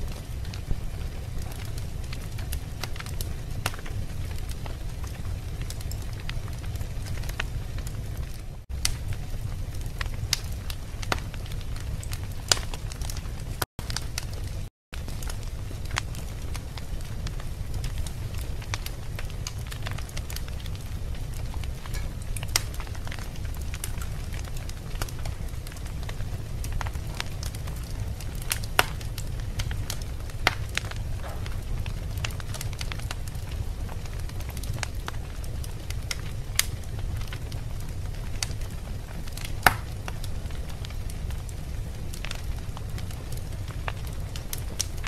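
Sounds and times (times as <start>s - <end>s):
fire crackling and rumbling: 0.0s - 45.0s
sharp pops of fire: 0.1s - 45.0s.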